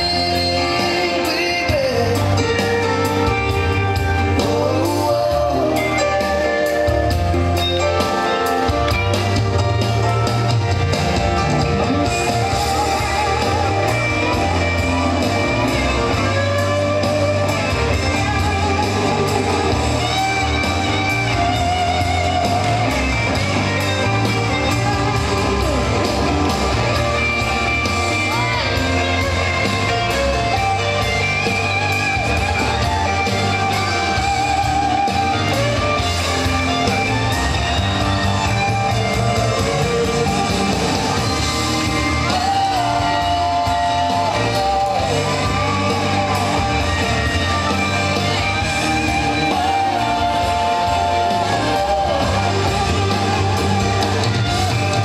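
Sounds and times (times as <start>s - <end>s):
song with guitar and drums over loudspeaker: 0.0s - 55.0s.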